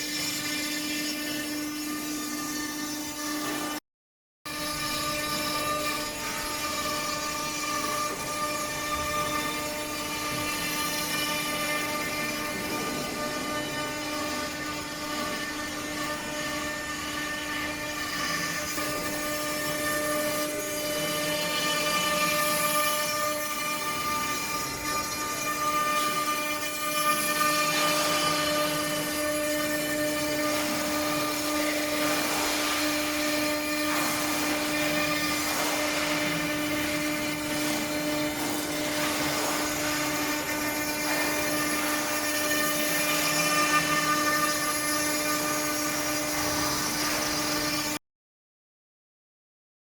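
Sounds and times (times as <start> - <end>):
cutter hissing on stone: 4.5 - 48.0.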